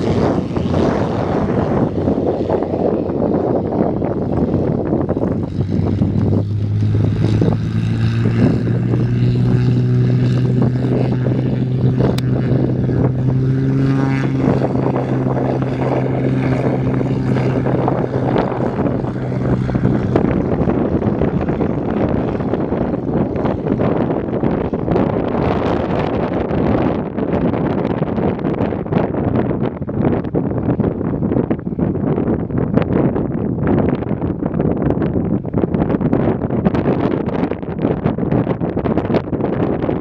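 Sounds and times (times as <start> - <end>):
aircraft engines humming: 0.0 - 40.0
wind on microphone: 0.0 - 40.0.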